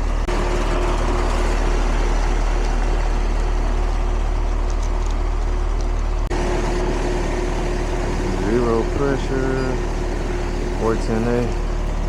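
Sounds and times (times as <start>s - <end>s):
compressor hum: 0.0s - 12.0s
condenser fan rushing: 0.0s - 12.0s.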